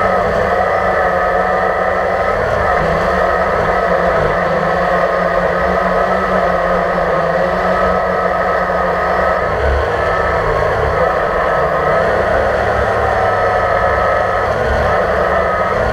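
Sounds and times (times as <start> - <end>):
drone propellers buzzing whine: 0.0 - 15.9.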